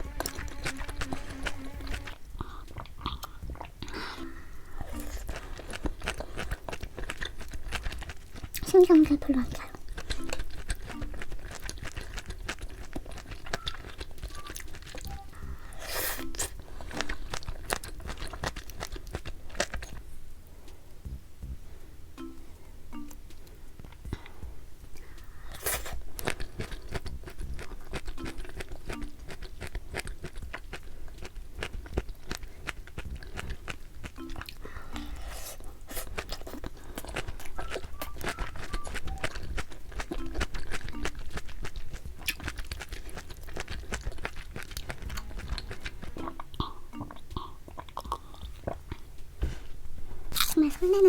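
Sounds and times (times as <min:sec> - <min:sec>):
crunching and chewing: 0:00.0 - 0:21.2, 0:23.3 - 0:51.0.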